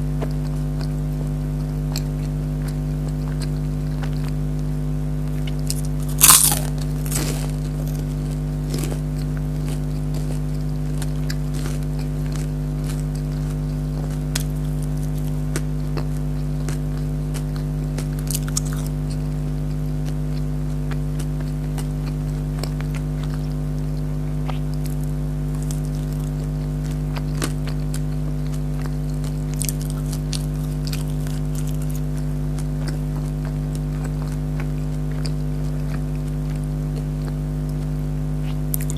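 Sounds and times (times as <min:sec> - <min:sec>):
chewing crunches: 0:00.1 - 0:38.9
crunchy bite into fried food: 0:05.4 - 0:38.9.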